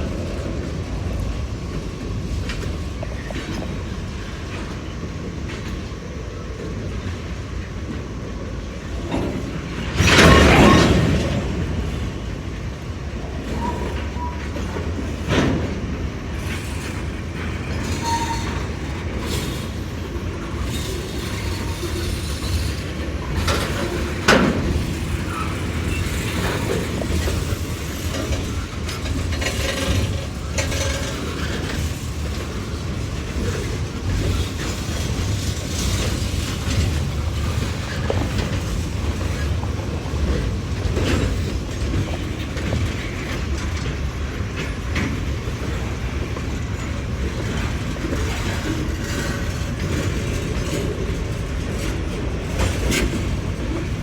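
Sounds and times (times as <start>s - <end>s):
freight train rolling on rails: 0.0s - 54.0s.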